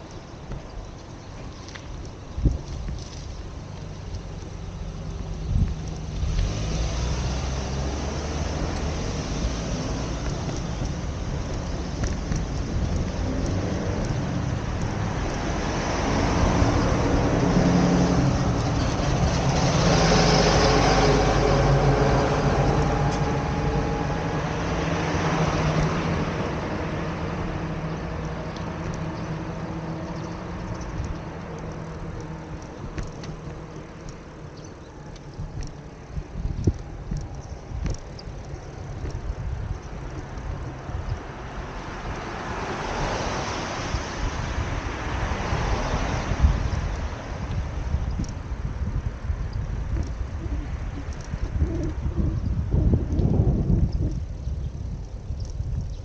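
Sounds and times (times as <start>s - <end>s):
vehicles passing close by: 0.0s - 56.0s.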